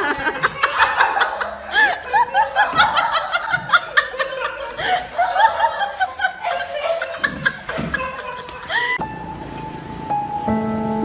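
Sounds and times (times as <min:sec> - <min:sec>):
people laughing: 0:00.0 - 0:09.0.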